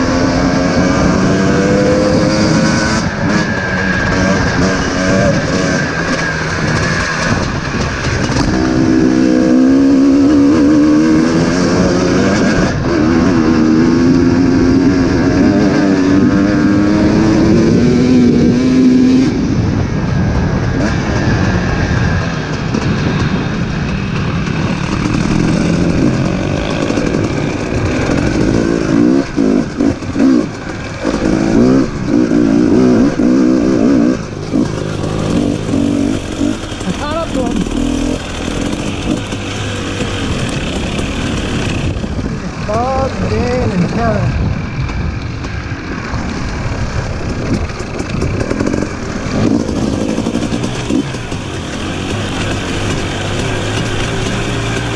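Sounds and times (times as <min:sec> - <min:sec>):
dirt bike engine accelerating: 0:00.0 - 0:54.9.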